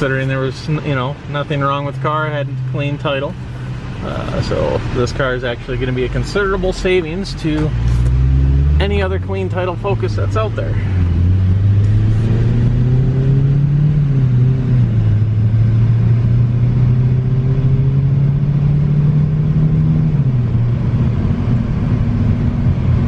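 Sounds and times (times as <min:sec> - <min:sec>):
car engine pulling: 0:00.0 - 0:23.0
road noise: 0:00.0 - 0:23.0.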